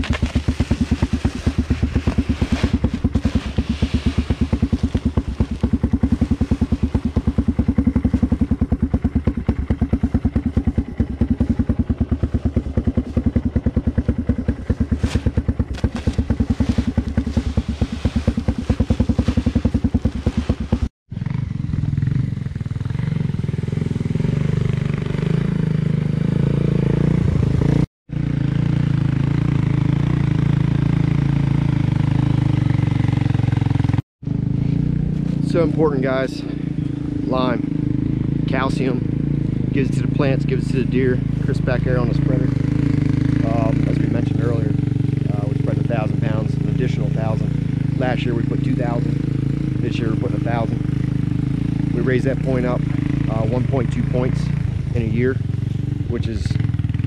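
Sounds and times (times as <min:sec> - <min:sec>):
atv engine idling: 0:00.0 - 0:57.0
atv engine running: 0:00.0 - 0:57.0.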